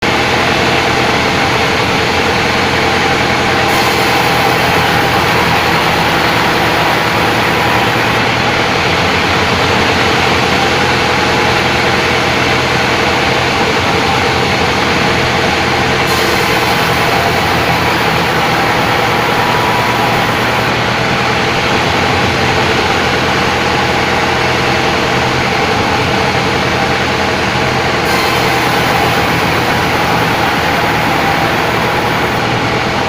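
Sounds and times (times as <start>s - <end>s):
sawmill machinery drone: 0.0s - 33.0s.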